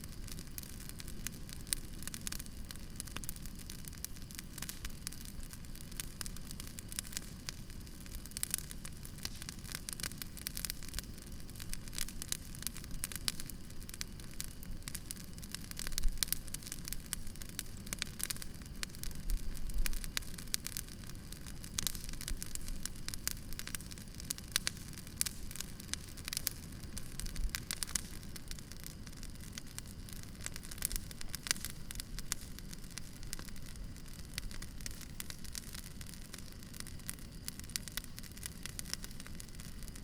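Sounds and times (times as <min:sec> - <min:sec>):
campfire crackling and popping: 0:00.0 - 0:40.0
low rumble of burning: 0:00.0 - 0:40.0.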